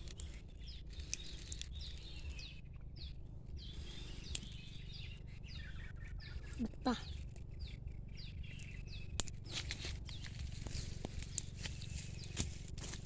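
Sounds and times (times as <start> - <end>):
birds calling: 0.0 - 13.0
steady low rumble: 0.0 - 13.0.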